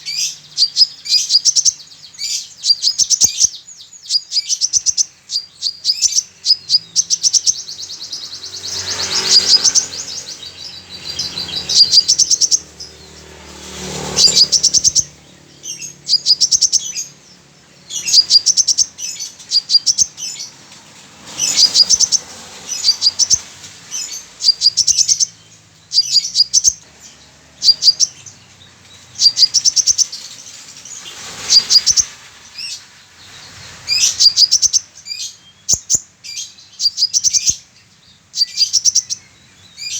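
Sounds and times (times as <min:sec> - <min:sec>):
sunbird chirping song: 0:00.0 - 0:39.9.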